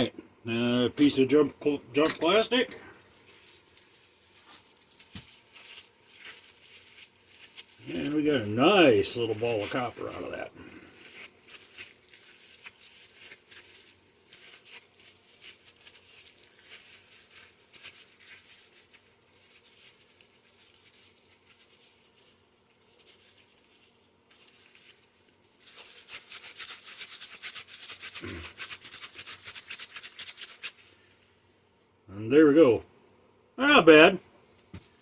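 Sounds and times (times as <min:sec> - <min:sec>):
scratchy rubbing and scraping: 0:03.0 - 0:31.1.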